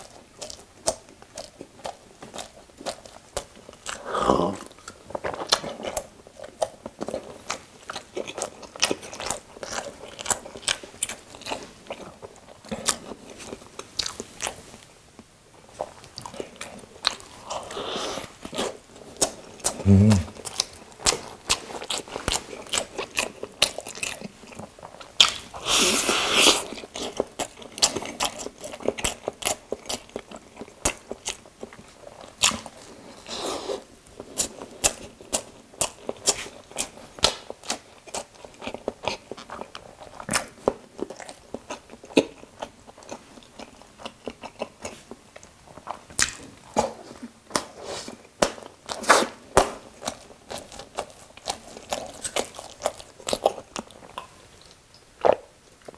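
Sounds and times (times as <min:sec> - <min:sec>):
wet chewing and mouth clicks: 0:00.0 - 0:14.9, 0:15.6 - 0:55.9.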